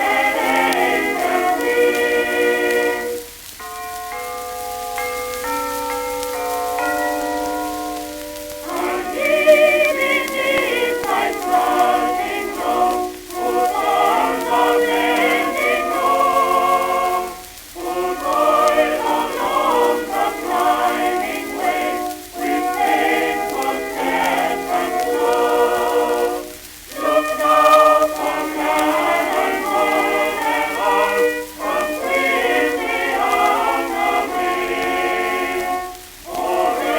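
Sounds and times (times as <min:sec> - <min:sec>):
choir singing on old record: 0:00.0 - 0:36.9.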